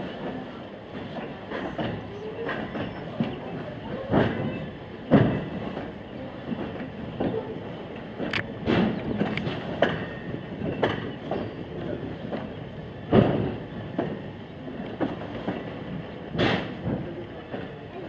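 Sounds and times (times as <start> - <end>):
railroad car rolling on track: 0.0 - 18.0.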